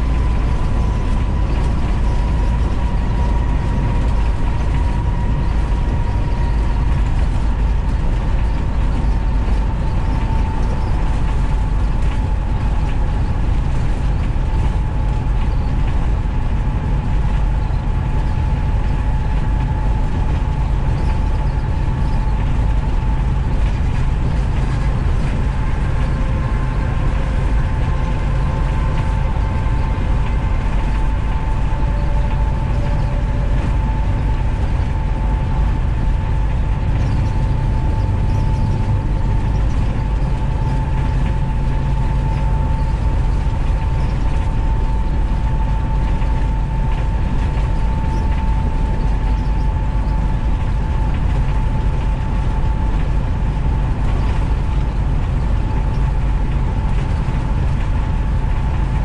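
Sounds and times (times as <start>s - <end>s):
engine and road rumble: 0.0s - 59.0s
thin wavering whine: 0.0s - 59.0s.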